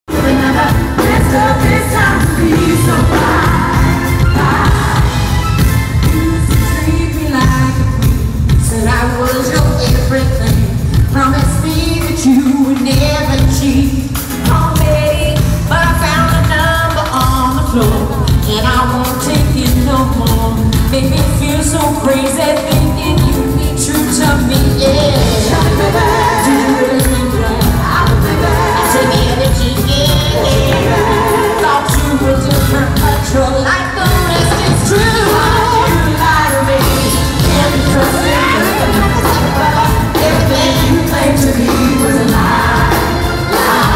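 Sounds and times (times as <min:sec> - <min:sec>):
bass: 0:00.0 - 0:43.9
crowd noise: 0:00.0 - 0:43.9
drums: 0:00.0 - 0:43.9
woman singing: 0:00.0 - 0:43.9
live pop-rock band: 0:00.1 - 0:43.9.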